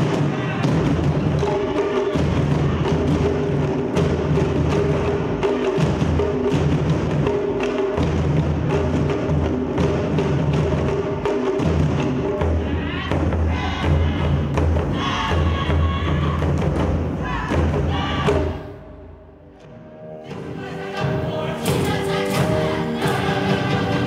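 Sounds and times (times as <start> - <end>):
taiko drums playing: 0.0 - 18.8, 19.6 - 24.0.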